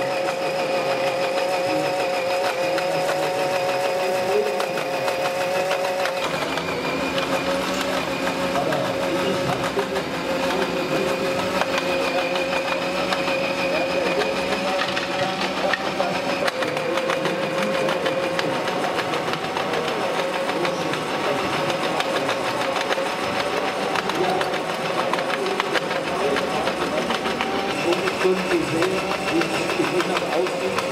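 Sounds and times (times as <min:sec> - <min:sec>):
fast light gear clicking: 0:00.0 - 0:30.9
small electric motors whining: 0:00.0 - 0:30.9.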